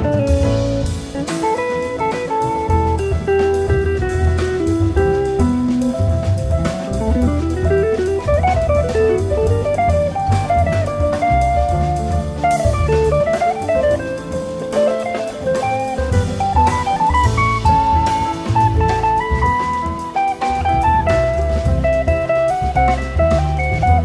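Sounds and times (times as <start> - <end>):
bass line: 0.0 - 24.0
drum kit: 0.0 - 24.0
electric guitar melody: 0.0 - 24.0.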